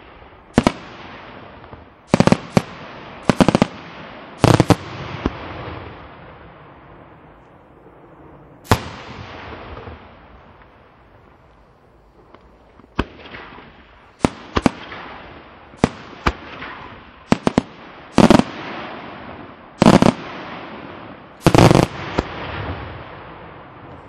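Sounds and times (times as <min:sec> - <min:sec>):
loud firework blasts with rumbling echo: 0:00.0 - 0:24.0.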